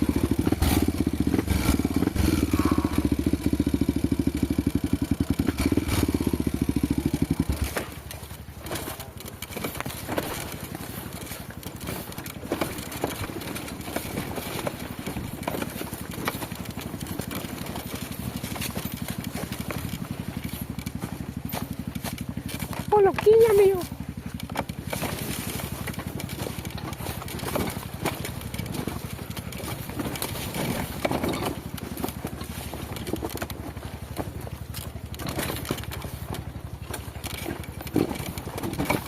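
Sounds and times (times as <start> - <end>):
clicks and clatter: 0.0 - 39.0
motorcycle engine revving and idling: 0.0 - 39.0.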